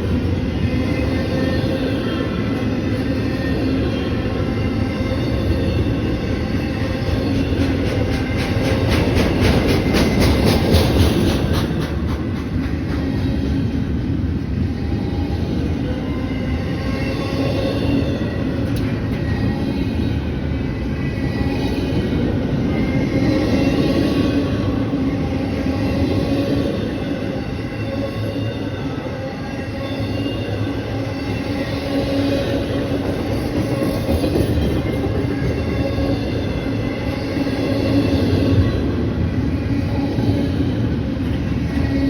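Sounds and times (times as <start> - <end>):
train rumbling on rails: 0.0 - 42.0.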